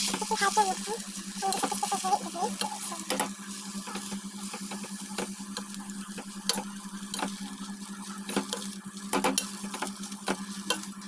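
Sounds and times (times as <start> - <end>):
light sizzle: 0.0 - 11.0.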